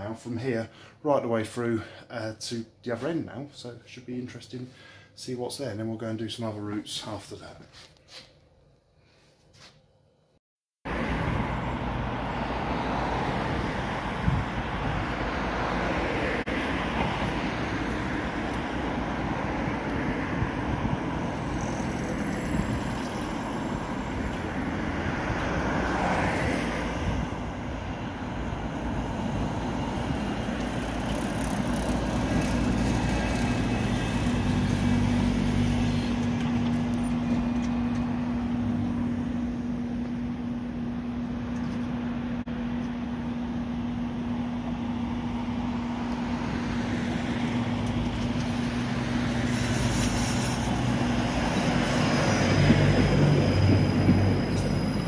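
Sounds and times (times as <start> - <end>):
road traffic noise: 10.9 - 55.0
tram motors humming and whining: 10.9 - 55.0.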